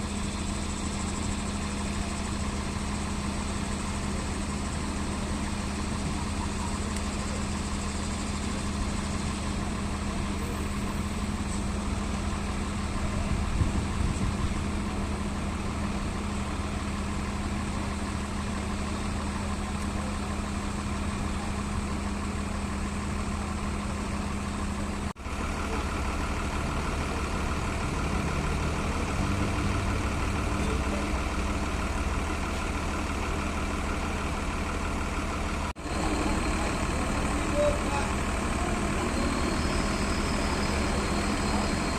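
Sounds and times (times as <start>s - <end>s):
bus diesel engine idling: 0.0s - 41.9s.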